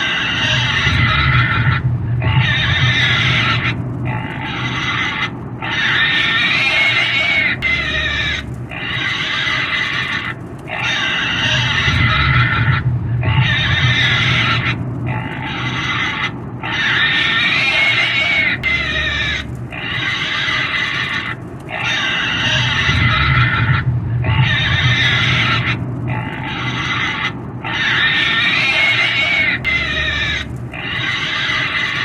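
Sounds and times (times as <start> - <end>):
pig squealing: 0.0 - 32.0.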